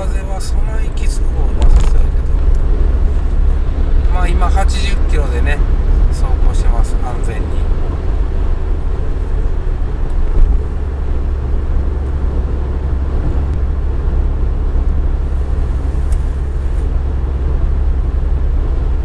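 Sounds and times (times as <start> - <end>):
road noise inside car cabin: 0.0 - 19.0.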